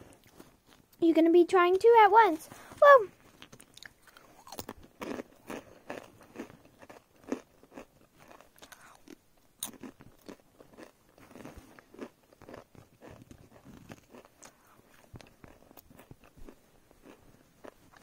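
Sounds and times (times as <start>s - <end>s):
person chewing crunchy snack: 0.0s - 1.0s, 3.2s - 18.0s.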